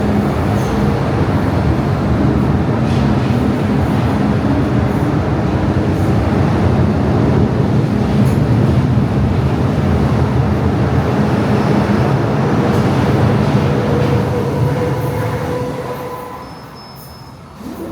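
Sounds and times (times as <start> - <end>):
train wheels rumbling: 0.0 - 17.9.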